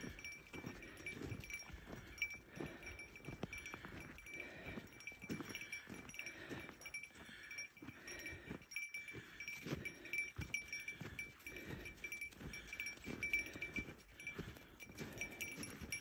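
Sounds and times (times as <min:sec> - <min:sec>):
footsteps crunching on snow: 0:00.0 - 0:16.0.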